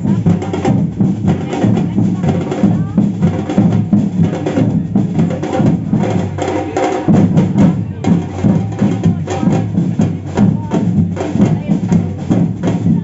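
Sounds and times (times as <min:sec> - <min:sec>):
deep drums: 0:00.0 - 0:13.0
samba percussion band: 0:00.0 - 0:13.0.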